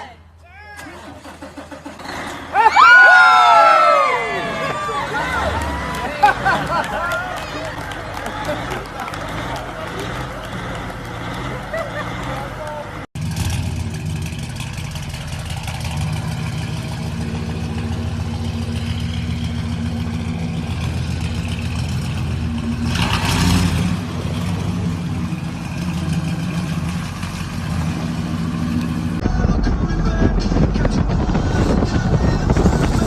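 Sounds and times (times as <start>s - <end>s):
diesel truck engine running: 0.3s - 33.0s.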